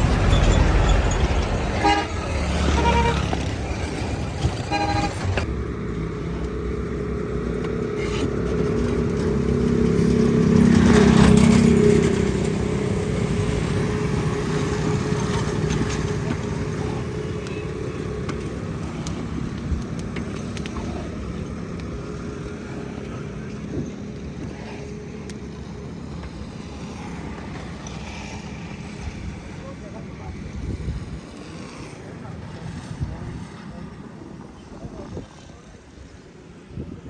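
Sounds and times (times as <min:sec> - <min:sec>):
vehicle engine hum passing: 0:00.0 - 0:37.0.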